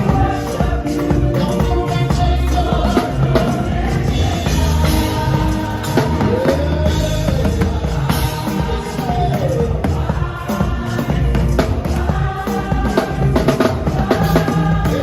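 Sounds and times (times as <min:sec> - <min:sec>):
live gospel band with singer: 0:00.0 - 0:15.0.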